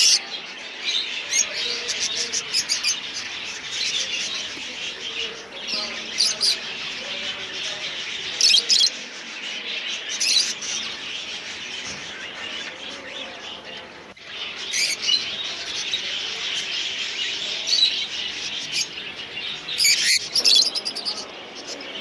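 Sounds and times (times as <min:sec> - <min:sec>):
caged birds chirping: 0:00.0 - 0:22.0.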